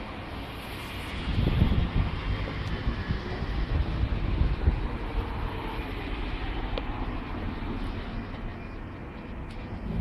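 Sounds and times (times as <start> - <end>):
wind noise on microphone: 0.0 - 8.4, 9.3 - 10.0
passing train rumble: 0.0 - 10.0.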